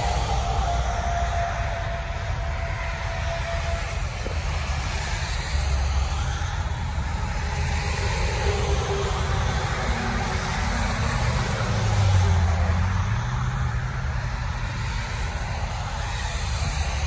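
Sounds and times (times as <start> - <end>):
engines idling in traffic: 0.0 - 17.0
traffic moving on wet road: 0.0 - 17.0.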